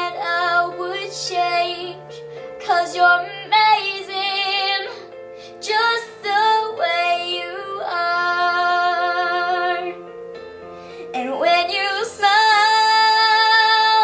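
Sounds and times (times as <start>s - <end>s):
girl singing: 0.0s - 10.0s, 11.2s - 14.0s.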